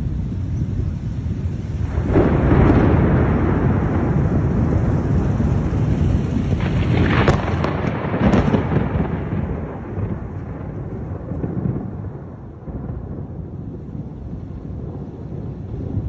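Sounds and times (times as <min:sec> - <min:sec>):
thunder peal and rumble: 0:00.0 - 0:16.0.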